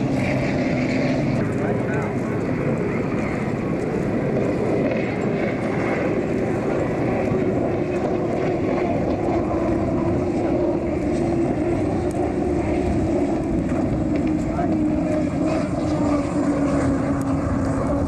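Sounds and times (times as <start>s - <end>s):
race boat engines droning: 0.0s - 18.0s.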